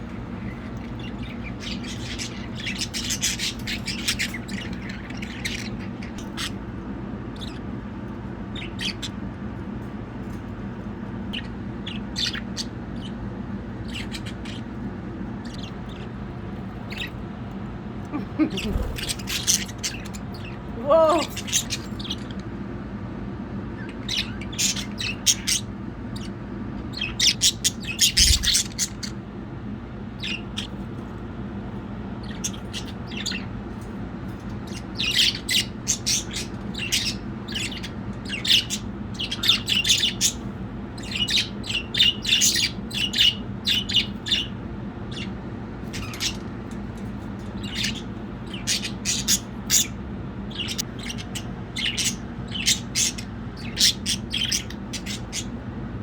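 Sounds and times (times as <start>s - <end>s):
budgerigars chirping: 0.0s - 6.7s, 7.3s - 7.6s, 8.5s - 9.2s, 11.3s - 22.6s, 23.7s - 29.3s, 30.2s - 31.0s, 32.2s - 46.6s, 47.4s - 55.6s.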